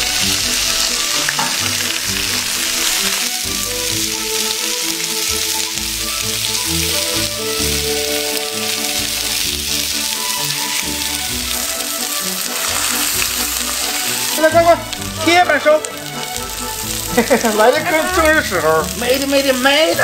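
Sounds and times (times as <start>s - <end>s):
background music: 0.0s - 20.0s
squid sizzling on griddle: 0.0s - 20.0s.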